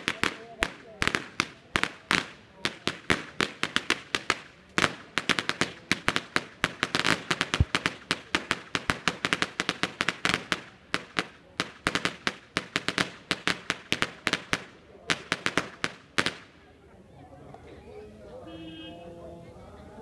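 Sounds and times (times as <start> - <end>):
firecrackers banging: 0.0 - 16.7.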